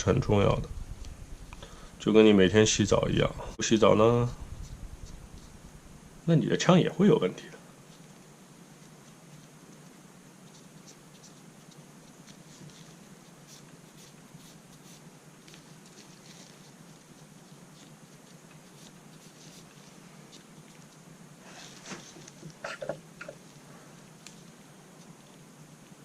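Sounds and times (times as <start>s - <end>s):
steady low hiss: 0.0s - 26.0s.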